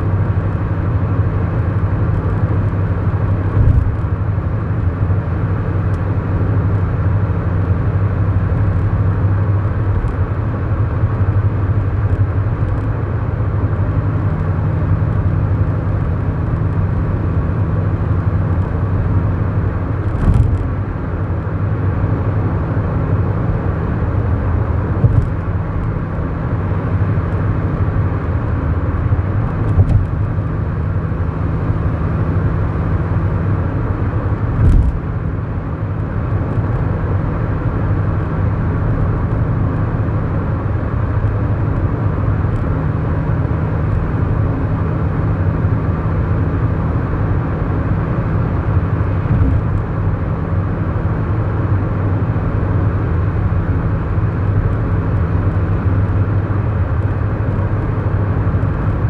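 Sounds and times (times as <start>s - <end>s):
car engine drone: 0.0s - 59.0s
tyre and road noise: 0.0s - 59.0s.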